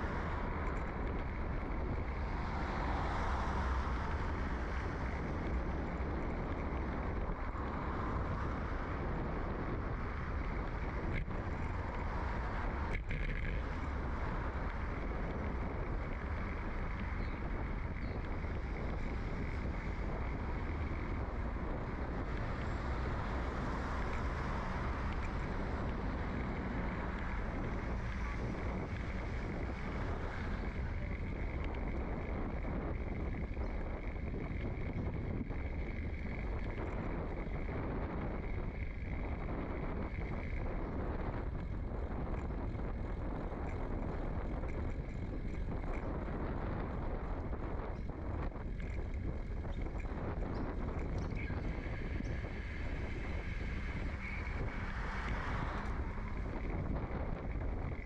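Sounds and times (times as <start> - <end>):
tyres rolling on asphalt: 0.0 - 58.0
wind and road rumble: 0.0 - 58.0.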